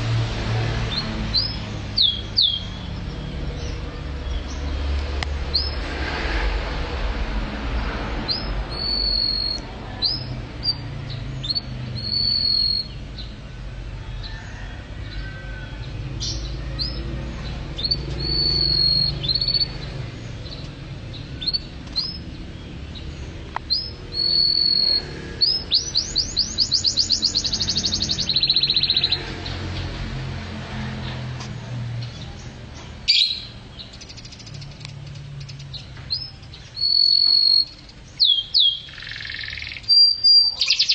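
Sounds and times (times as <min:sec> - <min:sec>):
songbird singing: 0:00.0 - 0:06.0, 0:07.6 - 0:40.9.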